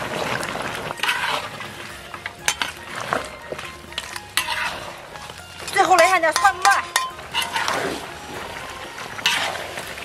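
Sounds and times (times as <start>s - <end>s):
food sizzling: 0.0s - 10.0s
metal spatula scraping a wok: 0.0s - 10.0s.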